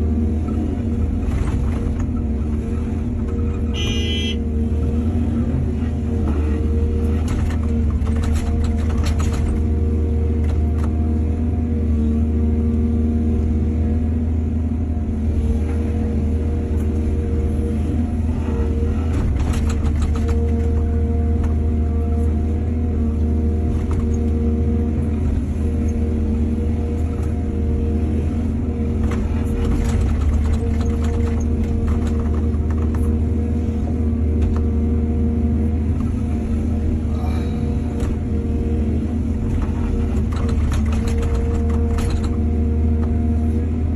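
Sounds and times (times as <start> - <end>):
excavator diesel engine rumbling: 0.0 - 43.9.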